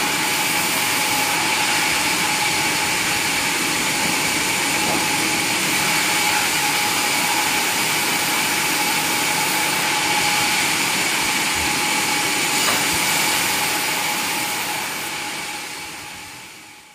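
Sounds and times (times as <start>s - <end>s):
sawmill machinery whining: 0.0s - 16.8s.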